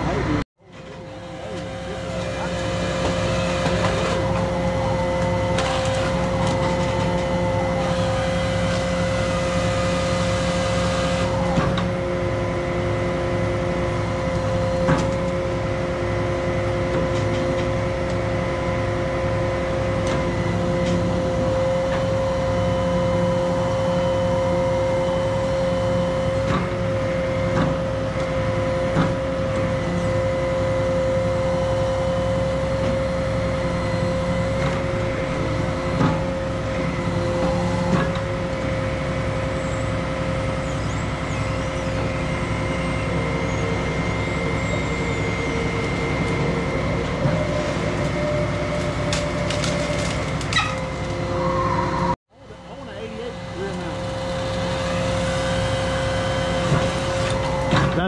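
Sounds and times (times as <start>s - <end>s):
crane engine and hydraulics whining: 0.0s - 58.0s.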